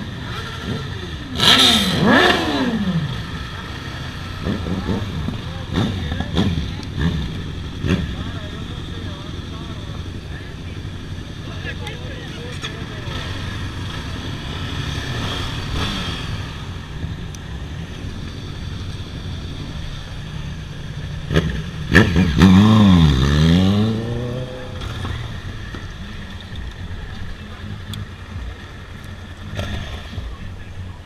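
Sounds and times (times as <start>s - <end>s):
motorcycle engines running: 0.0s - 31.0s
motorcycle revving loudly: 0.0s - 31.0s.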